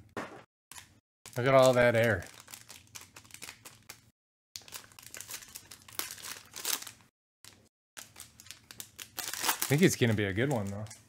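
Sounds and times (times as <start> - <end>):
foil wrapper crinkling and tearing: 0.7 - 10.9.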